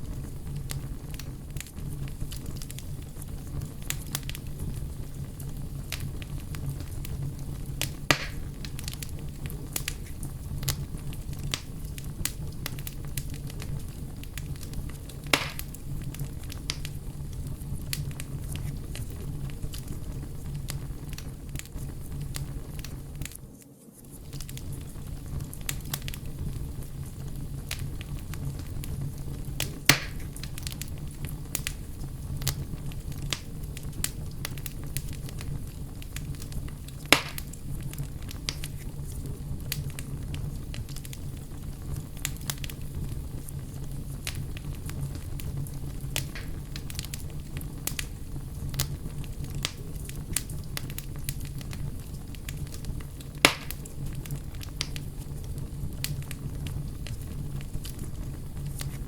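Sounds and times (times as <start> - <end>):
bonfire flame rushing: 0.0 - 59.0
burning wood crackling: 0.0 - 59.0
sharp pops from fire: 0.0 - 59.0.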